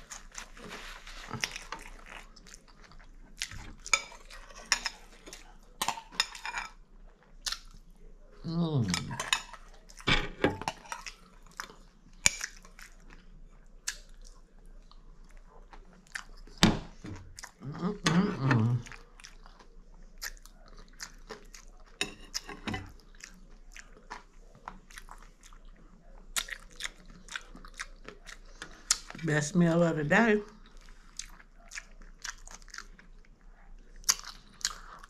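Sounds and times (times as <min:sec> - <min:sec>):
person chewing and crunching food: 0:00.0 - 0:29.3, 0:30.4 - 0:35.0.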